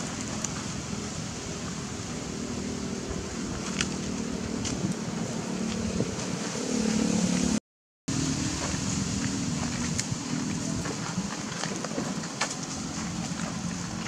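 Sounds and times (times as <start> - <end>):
engine droning: 0.0 - 14.0
outdoor background noise: 0.0 - 14.0.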